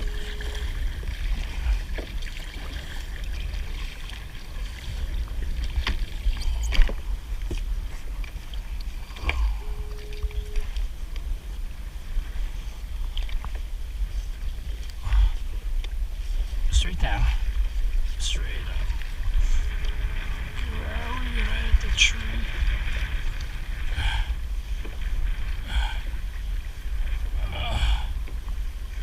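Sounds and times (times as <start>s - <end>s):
kayak paddling: 0.0s - 29.0s
steady low rumble: 0.0s - 29.0s.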